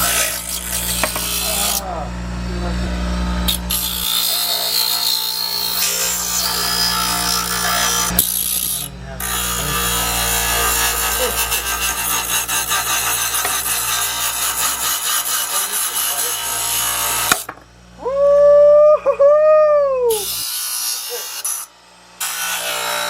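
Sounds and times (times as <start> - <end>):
power grinder grinding: 0.0 - 18.0, 20.1 - 23.0.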